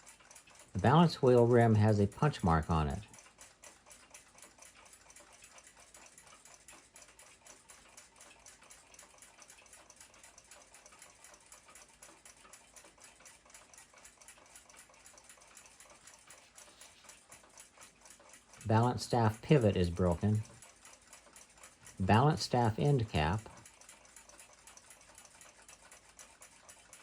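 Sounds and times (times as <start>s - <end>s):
clock ticking: 0.0s - 27.0s.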